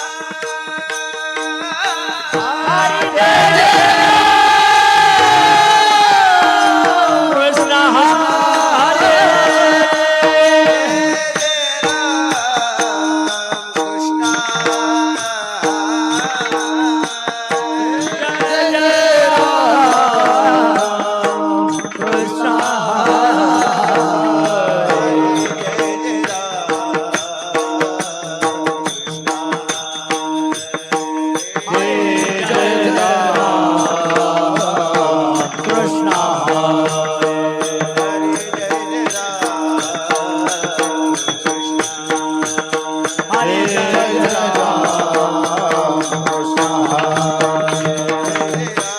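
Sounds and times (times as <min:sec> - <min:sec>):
hand percussion: 0:00.0 - 0:48.9
person singing devotional song: 0:00.0 - 0:48.9.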